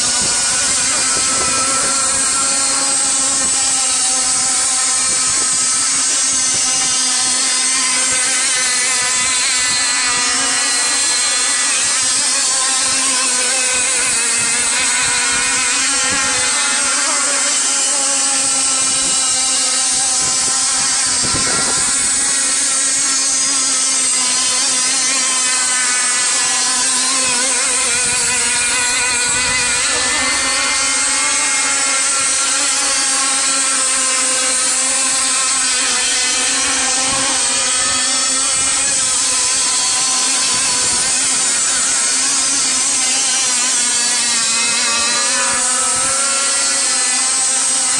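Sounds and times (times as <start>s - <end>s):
model boat engine buzzing whine: 0.0s - 47.9s.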